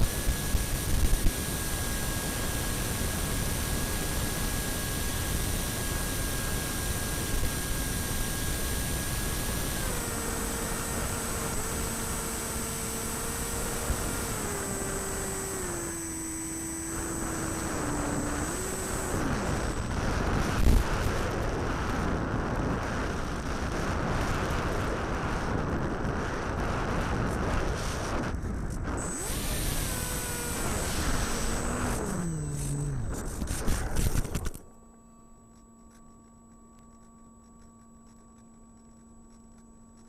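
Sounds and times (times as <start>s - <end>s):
wind noise: 0.0s - 34.6s
model aircraft motor whining: 0.0s - 34.7s.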